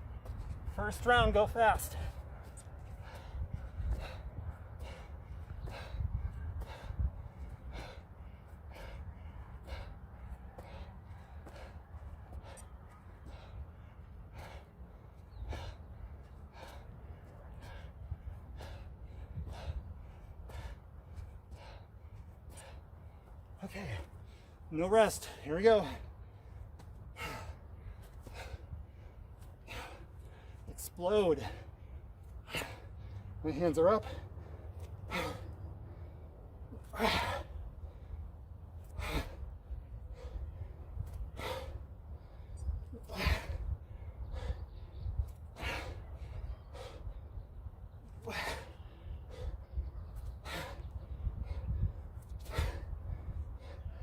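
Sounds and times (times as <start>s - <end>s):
man breathing hard: 0.0s - 54.0s
steady low hum: 0.0s - 54.0s.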